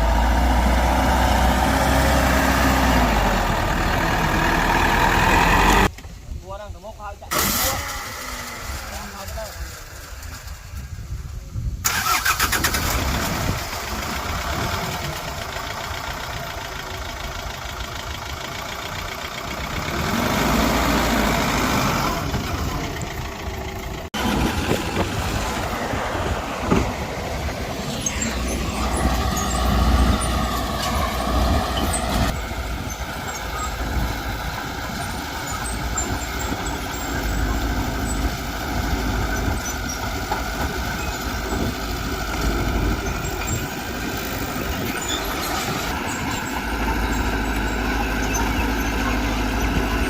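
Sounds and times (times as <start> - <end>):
heavy diesel engine under load: 0.0 - 6.4, 7.0 - 50.0.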